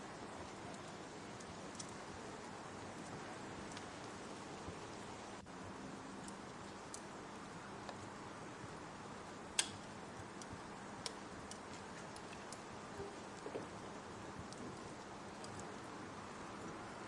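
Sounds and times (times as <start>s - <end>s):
rain hissing: 0.0s - 17.0s
wood fire crackling and popping: 0.0s - 17.0s.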